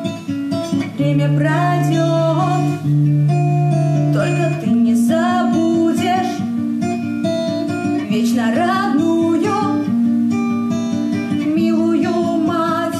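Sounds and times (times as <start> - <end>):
plucked acoustic guitar: 0.0 - 12.9
woman singing: 0.0 - 12.9.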